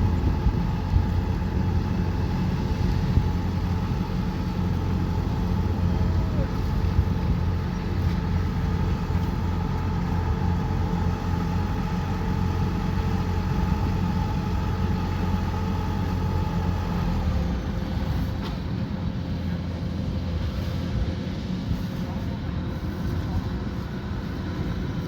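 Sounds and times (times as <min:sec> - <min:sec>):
combine harvester engine drone: 0:00.0 - 0:25.0
machinery whine: 0:00.0 - 0:25.0.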